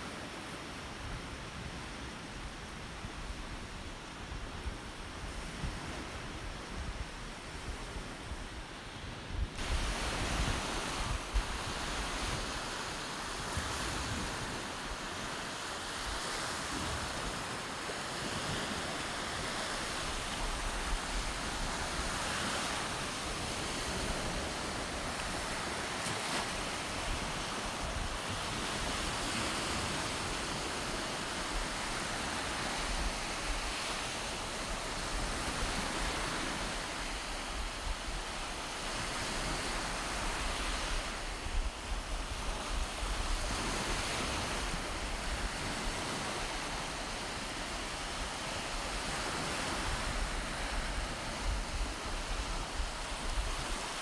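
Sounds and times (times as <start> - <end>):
wind buffeting microphone: 1.2 - 54.0
small surf breaking on sand: 9.6 - 54.0.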